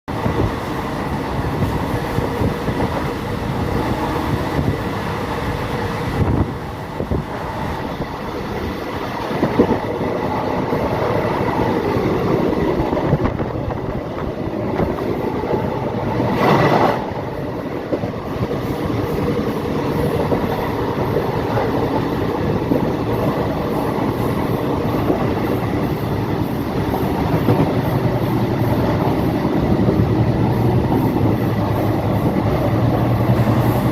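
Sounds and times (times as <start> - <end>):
rails clickety-clack: 0.1 - 33.9
train rumbling on track: 0.1 - 33.9.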